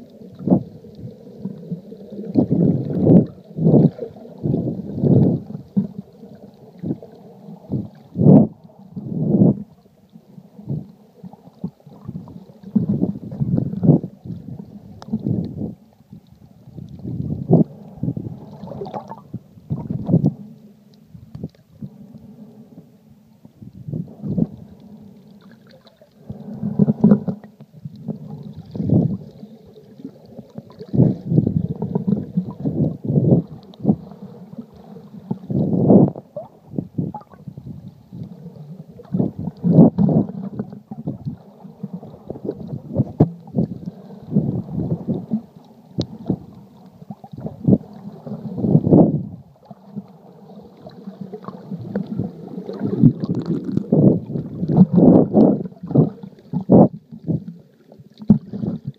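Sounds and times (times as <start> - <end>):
muffled underwater sloshing: 0.0 - 58.9.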